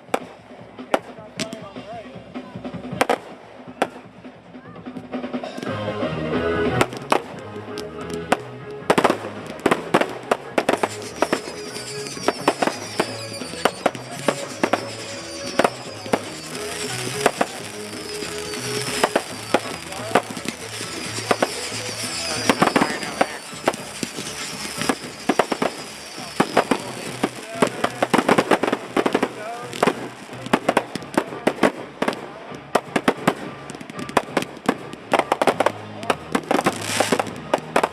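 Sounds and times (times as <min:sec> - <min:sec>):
fireworks bangs and pops: 0:00.0 - 0:37.9
fireworks whistling: 0:00.0 - 0:37.9
music: 0:00.0 - 0:37.9.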